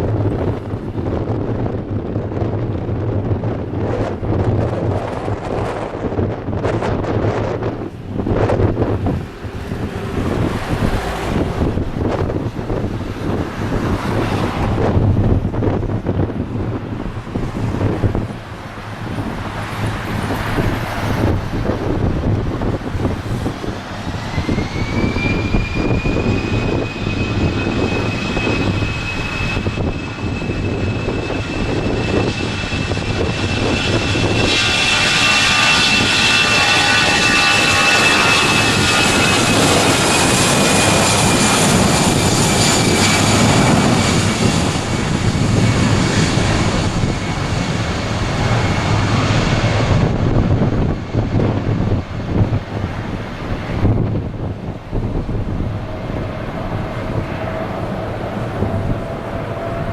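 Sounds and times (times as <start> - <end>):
jet engines whining: 0.0 - 59.9
rushing jet noise: 0.0 - 59.9.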